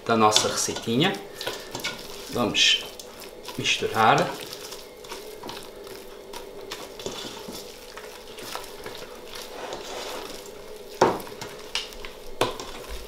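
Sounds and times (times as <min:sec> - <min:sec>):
spatula scraping a pot: 0:00.4 - 0:13.0.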